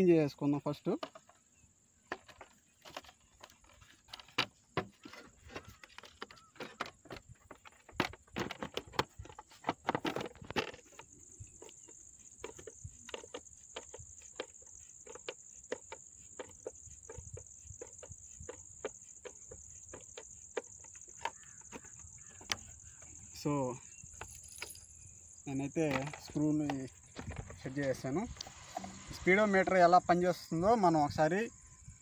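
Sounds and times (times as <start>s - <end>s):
plastic visor rattling and knocking: 0.8s - 29.1s.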